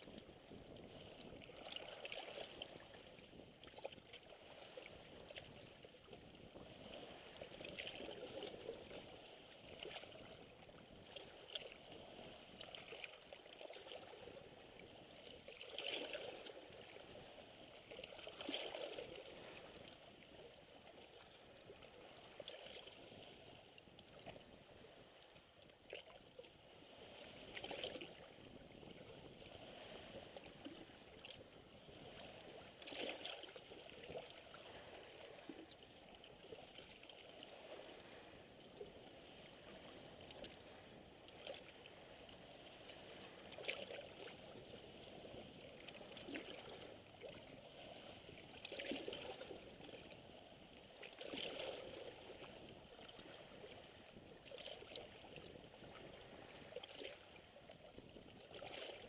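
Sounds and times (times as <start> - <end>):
small waves lapping on rocks: 0.0 - 59.0.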